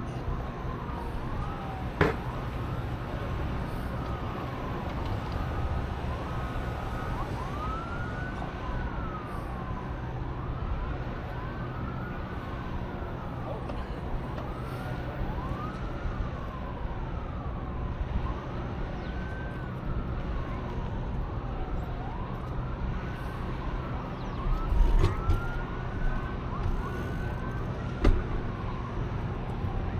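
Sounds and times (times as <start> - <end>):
emergency siren wailing: 0.0 - 29.9
traffic rumble: 0.0 - 29.9.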